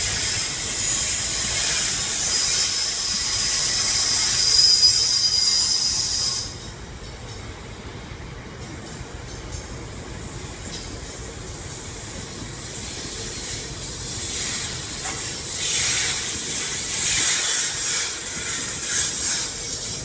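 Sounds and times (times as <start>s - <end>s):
freight train wheels hissing on rails: 0.0s - 20.0s.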